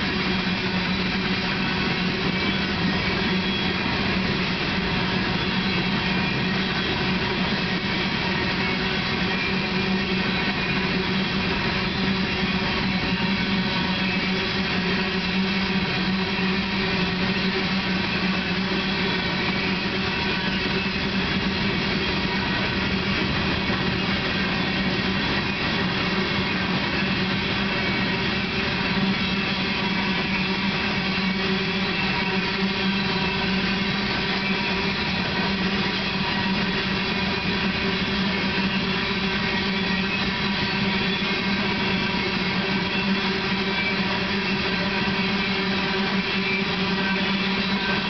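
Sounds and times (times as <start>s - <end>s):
steady low hum: 0.0s - 48.0s
train wheels rumbling on rail: 0.0s - 48.0s.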